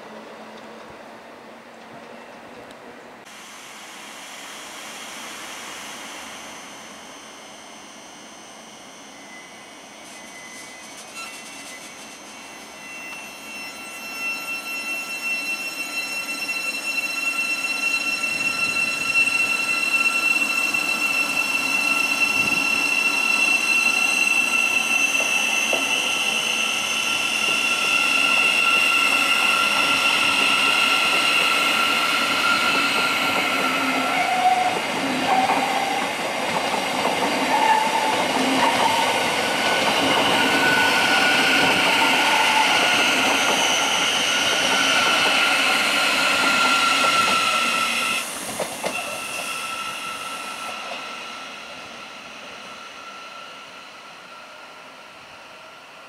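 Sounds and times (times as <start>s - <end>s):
electric train whine: 3.2s - 56.0s.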